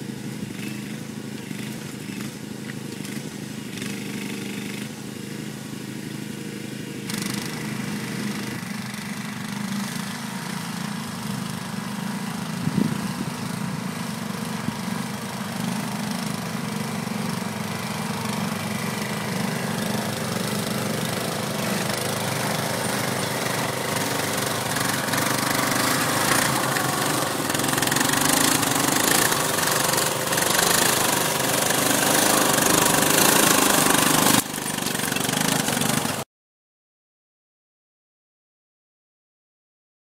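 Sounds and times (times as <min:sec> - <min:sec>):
atv engine passing: 0:00.0 - 0:36.2.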